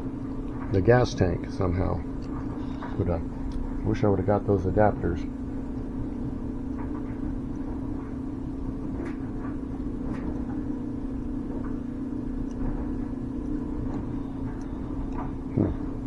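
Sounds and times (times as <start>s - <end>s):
air pump humming: 0.0s - 16.0s.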